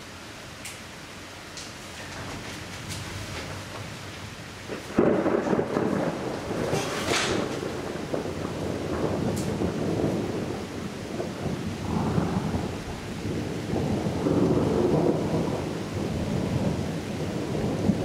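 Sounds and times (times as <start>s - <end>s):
rain falling: 0.0s - 18.0s
thunder rumbling: 1.6s - 18.0s.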